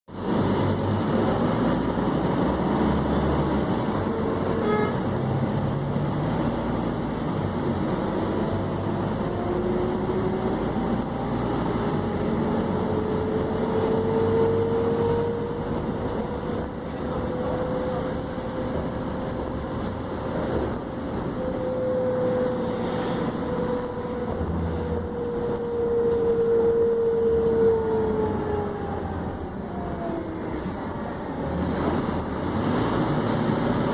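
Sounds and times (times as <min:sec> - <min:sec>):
bus drivetrain rumble and whine: 0:00.1 - 0:33.9.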